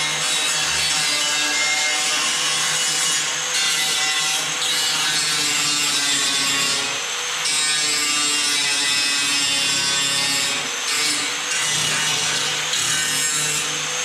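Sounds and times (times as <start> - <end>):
electric grinder grinding sheet metal: 0.0 - 14.0.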